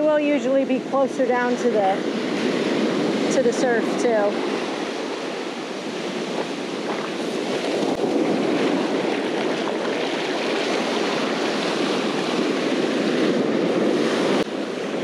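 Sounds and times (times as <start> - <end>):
water rushing over sand: 0.0 - 15.0
waves breaking: 0.0 - 15.0.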